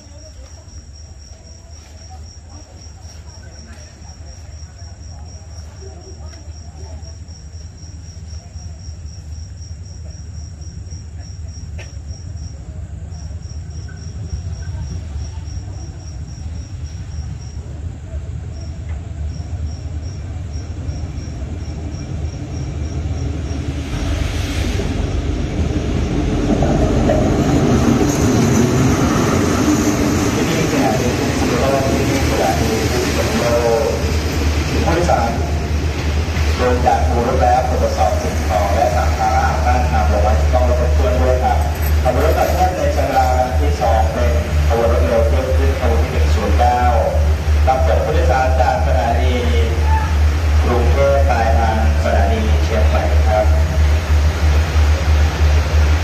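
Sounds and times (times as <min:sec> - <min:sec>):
crickets chirping: 0:00.0 - 0:56.0
train rumbling past: 0:00.0 - 0:56.0.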